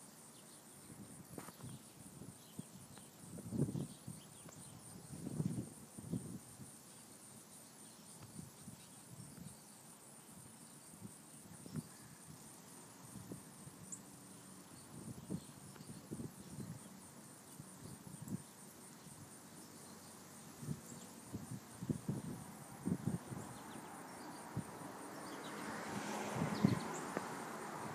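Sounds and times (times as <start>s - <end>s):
faint outdoor background: 0.0s - 27.9s
insects trilling: 0.0s - 27.9s.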